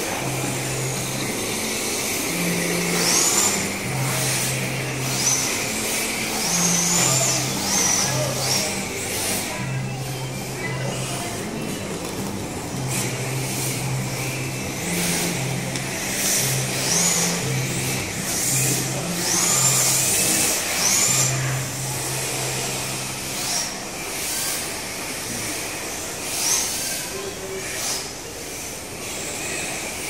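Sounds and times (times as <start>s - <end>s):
rc car motors whining: 0.0s - 30.0s.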